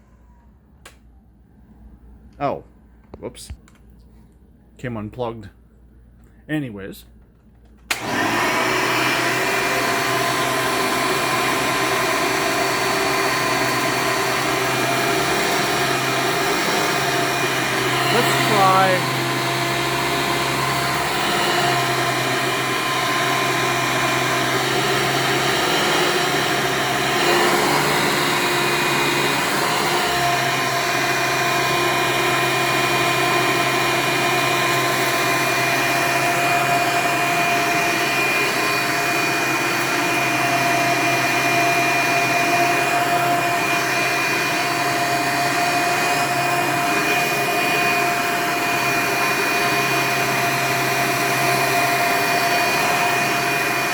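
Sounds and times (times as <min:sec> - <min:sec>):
vacuum cleaner motor whining: 0:07.9 - 0:53.9.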